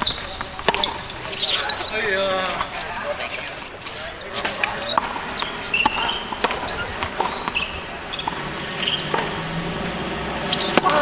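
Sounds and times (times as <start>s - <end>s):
tennis ball knocks: 0.0s - 2.7s, 3.9s - 9.5s, 10.4s - 11.0s.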